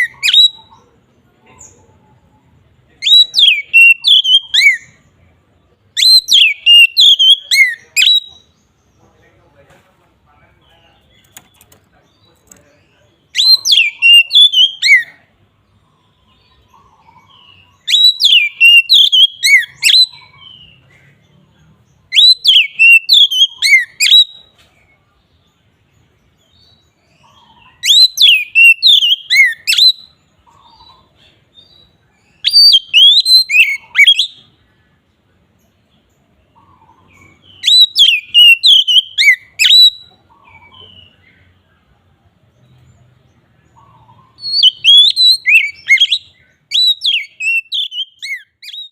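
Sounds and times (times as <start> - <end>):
bird singing whistled notes: 0.0 - 0.9, 2.9 - 5.2, 5.8 - 9.1, 10.9 - 20.9, 21.6 - 24.6, 26.3 - 34.9, 35.6 - 41.6, 42.6 - 48.9.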